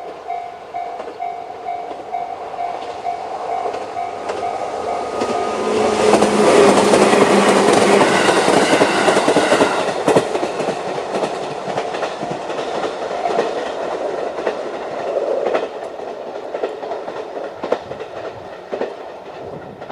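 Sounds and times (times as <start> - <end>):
electric train passing: 0.0 - 19.9
wheels clacking over rail joints: 0.0 - 19.9.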